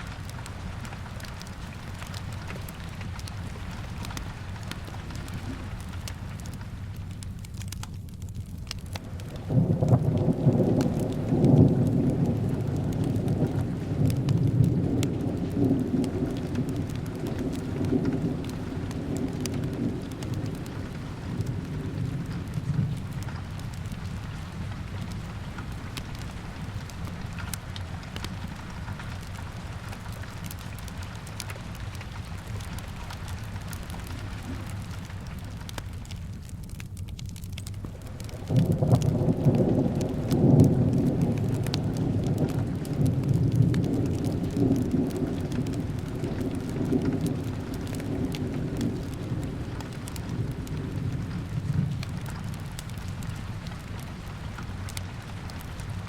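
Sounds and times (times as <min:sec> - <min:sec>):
steady rain hiss: 0:00.0 - 0:56.0
thunder rumbling: 0:00.0 - 0:56.0
wood fire crackling: 0:00.0 - 0:56.0.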